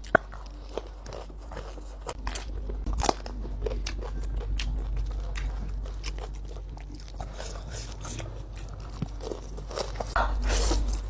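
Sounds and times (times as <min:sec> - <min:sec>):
low hum: 0:00.0 - 0:11.0
person chewing crunchy food: 0:00.0 - 0:11.0.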